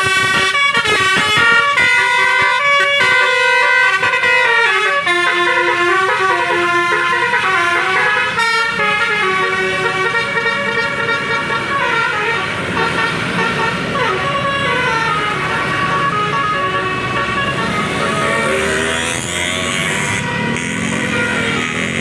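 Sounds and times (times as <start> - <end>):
bus musical horn playing a tune: 0.0 - 22.0
road traffic: 0.0 - 22.0.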